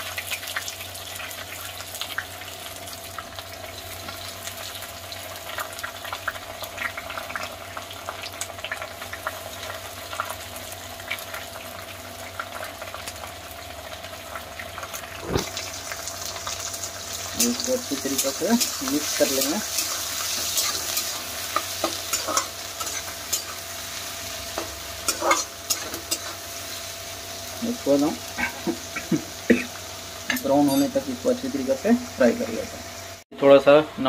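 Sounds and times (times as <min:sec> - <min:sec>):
onions sizzling in hot oil: 0:00.0 - 0:33.2.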